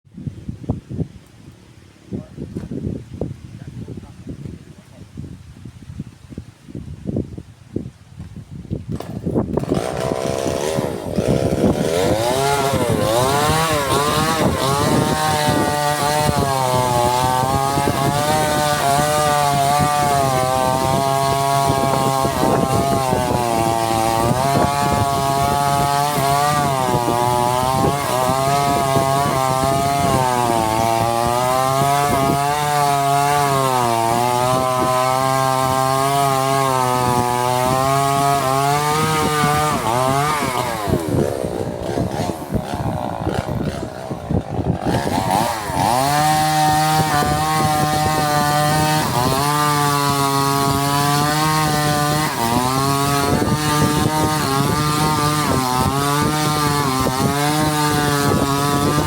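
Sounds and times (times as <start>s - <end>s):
chainsaw cutting wood: 8.2s - 59.0s.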